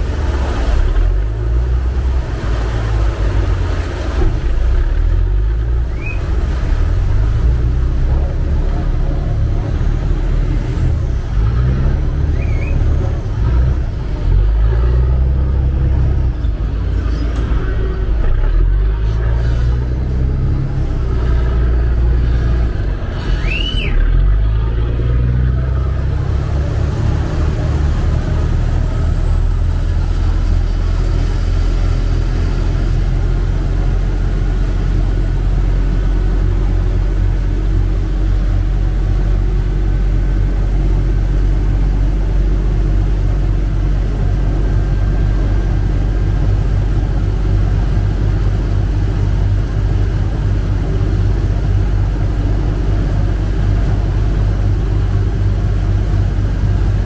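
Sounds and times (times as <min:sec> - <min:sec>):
boat diesel engine rumbling: 0:00.0 - 0:57.0.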